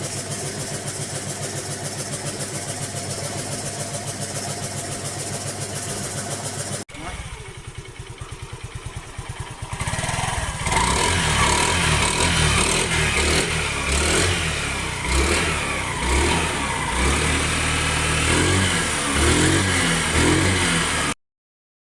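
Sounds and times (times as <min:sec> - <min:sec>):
scooter engine revving: 0:00.0 - 0:21.2.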